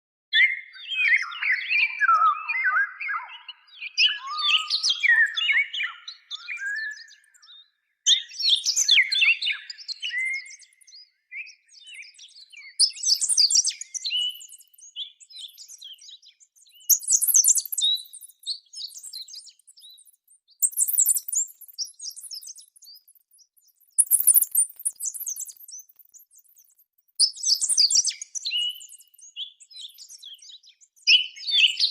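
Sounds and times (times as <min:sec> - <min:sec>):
songbirds chirping: 0:00.4 - 0:31.9.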